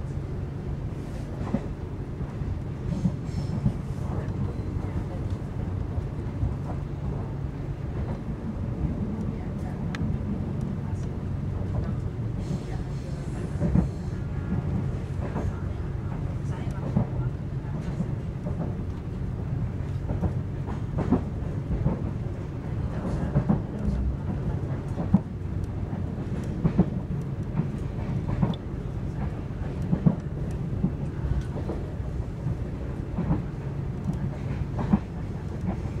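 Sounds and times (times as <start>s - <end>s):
train wheels rumbling on rails: 0.0s - 36.0s
train clacks and knocks: 1.1s - 36.0s.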